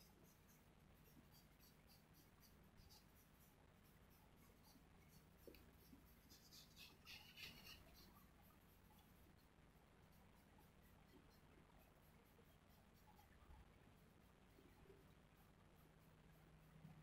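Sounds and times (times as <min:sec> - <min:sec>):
pencil scratching on paper: 0:00.0 - 0:17.0.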